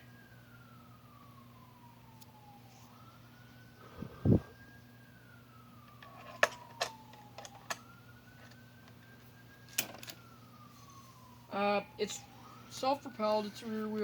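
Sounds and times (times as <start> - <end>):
siren wailing faintly: 0.0 - 14.0.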